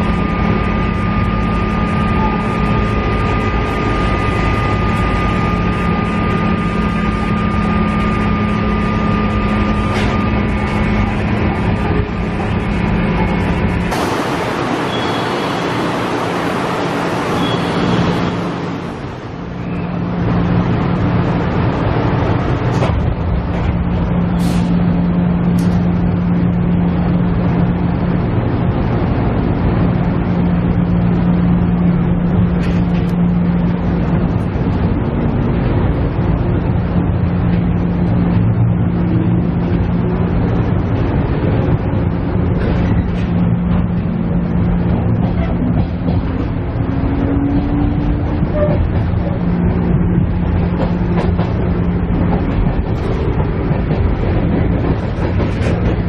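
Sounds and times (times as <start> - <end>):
diesel engine droning: 0.0 - 56.0
wheels rumbling on rail: 0.0 - 56.0.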